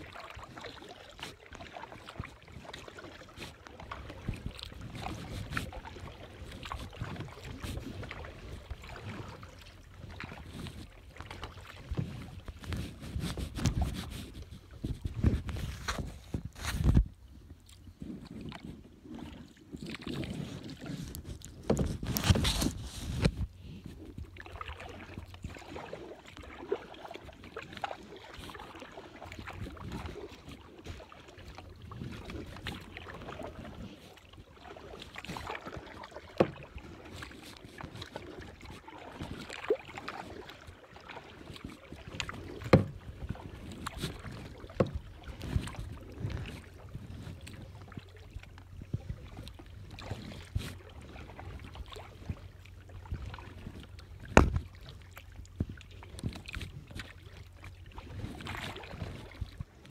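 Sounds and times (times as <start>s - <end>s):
paddle splashing in water: 0.0s - 59.9s.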